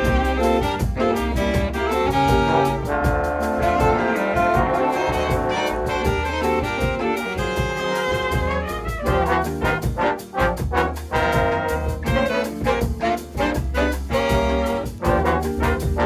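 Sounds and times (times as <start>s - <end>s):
brass jazz ensemble playing samba: 0.0s - 16.0s
steady bass line: 0.0s - 16.0s.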